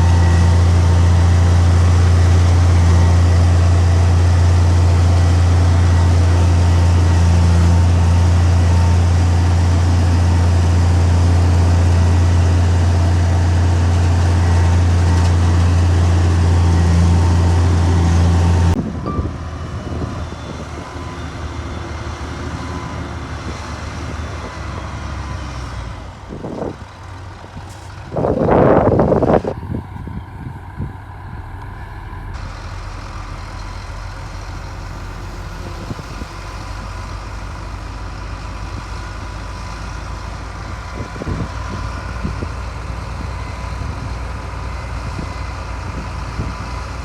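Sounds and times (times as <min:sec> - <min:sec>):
heavy diesel machinery humming: 0:00.0 - 0:47.0.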